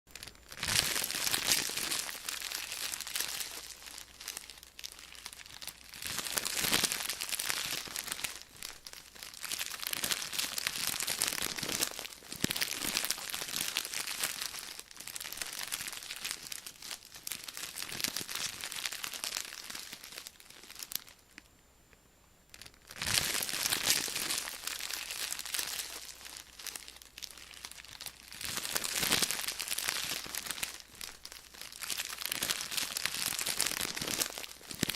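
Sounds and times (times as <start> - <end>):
chip bag crinkling: 0.1 - 21.4, 22.5 - 34.9.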